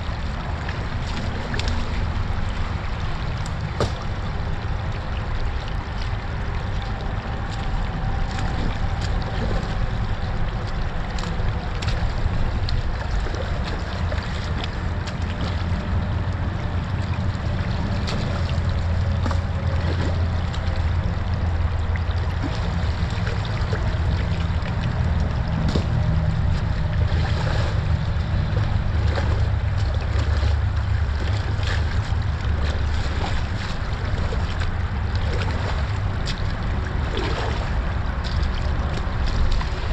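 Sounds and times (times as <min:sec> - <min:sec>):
boots wading through water: 0:00.0 - 0:39.9
creek water over stones: 0:00.0 - 0:39.9
wind rumbling on microphone: 0:00.0 - 0:39.9.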